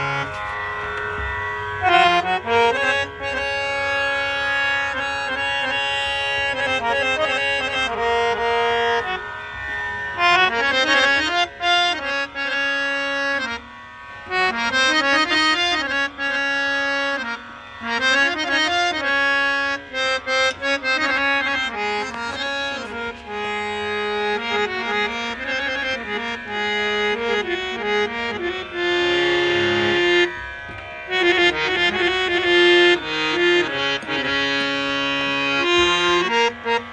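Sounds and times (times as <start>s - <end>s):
harmonium playing a slow melody: 0.0s - 36.9s.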